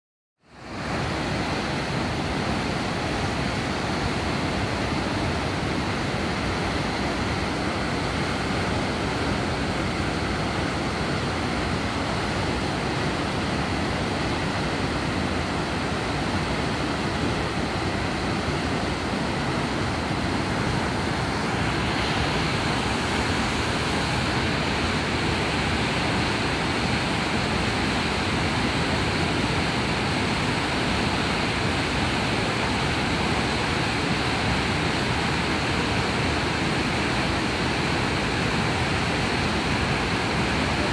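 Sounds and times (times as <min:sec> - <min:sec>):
waterfall roaring: 0:00.5 - 0:40.9.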